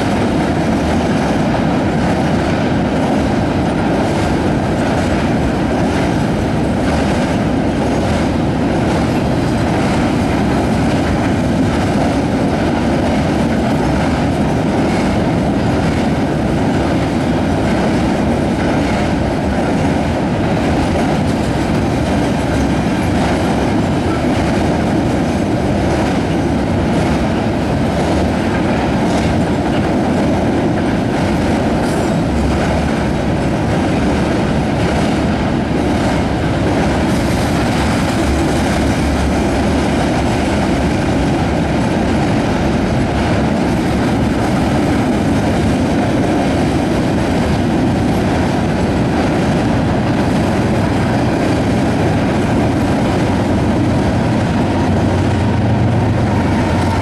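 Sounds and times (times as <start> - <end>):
freight train wheels rumbling: 0.0 - 57.0
rail clicks: 0.0 - 57.0.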